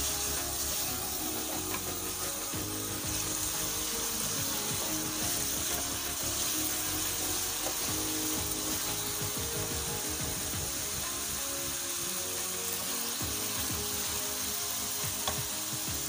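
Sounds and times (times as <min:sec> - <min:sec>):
wooden spatula scraping a pan: 0:00.0 - 0:15.9
potatoes sizzling in hot oil: 0:00.0 - 0:16.0
soft music: 0:00.0 - 0:16.0.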